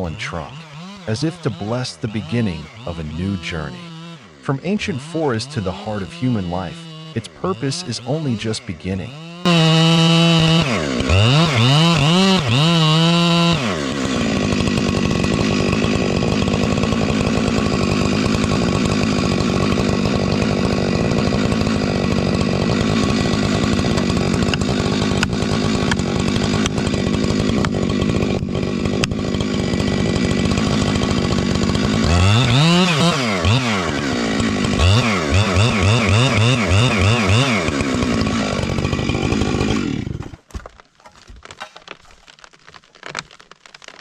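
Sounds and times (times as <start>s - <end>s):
chainsaw revving and cutting wood: 0.0s - 44.0s.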